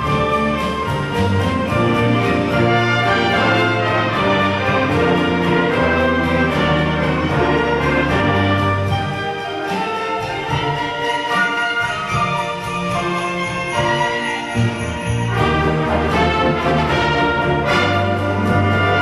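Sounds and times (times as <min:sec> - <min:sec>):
orchestra playing held chords: 0:00.0 - 0:19.0.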